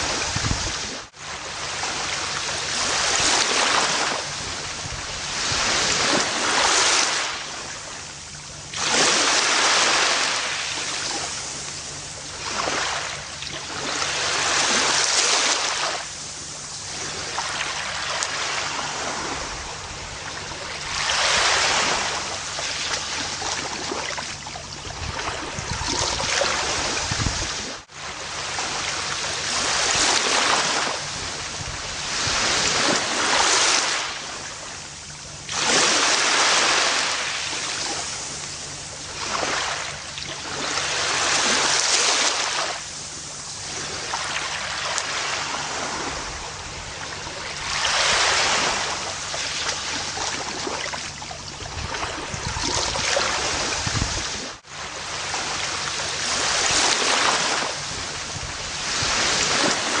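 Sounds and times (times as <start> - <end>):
ocean waves breaking on beach: 0.0 - 60.0.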